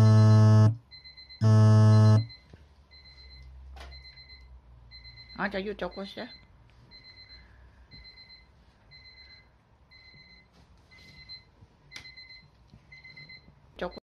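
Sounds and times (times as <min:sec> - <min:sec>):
electronic alarm beeping: 0:00.0 - 0:14.0.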